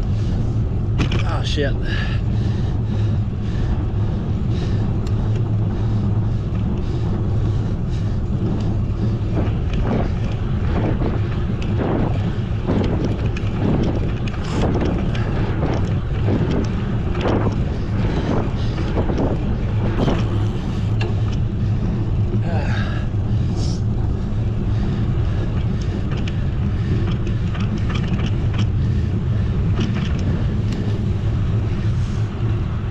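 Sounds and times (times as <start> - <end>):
steady low rumble: 0.0 - 32.9
wind buffeting microphone: 0.0 - 32.9.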